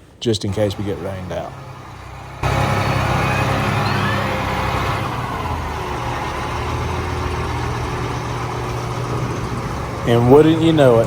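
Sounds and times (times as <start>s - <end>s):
engine whine: 0.0s - 11.0s
tractor diesel engine running: 0.0s - 11.0s.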